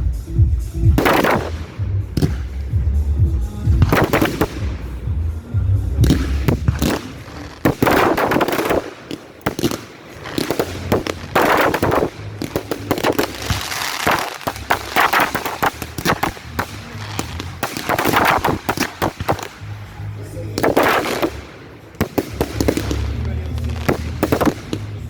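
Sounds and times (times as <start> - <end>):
fireworks banging: 0.0 - 25.0
fireworks crackling and fizzing: 0.0 - 25.0.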